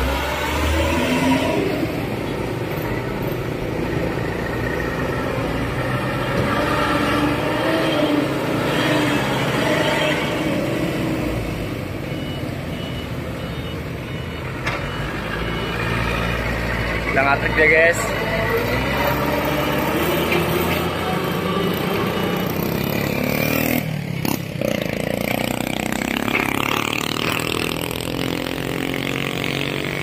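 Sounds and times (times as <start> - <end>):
diesel truck engines: 0.0 - 30.0.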